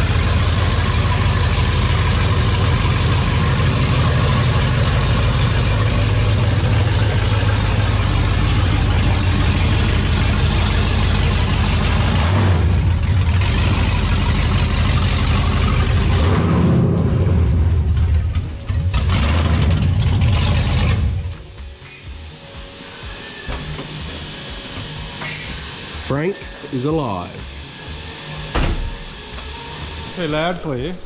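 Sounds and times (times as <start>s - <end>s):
vee eight engine idling: 0.0s - 31.0s.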